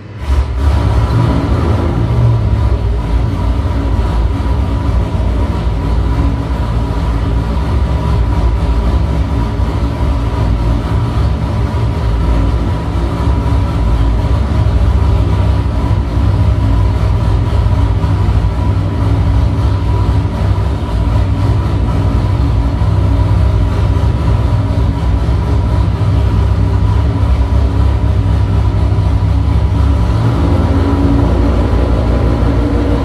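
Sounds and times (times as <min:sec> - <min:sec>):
racing engine running steadily: 0:00.0 - 0:33.0.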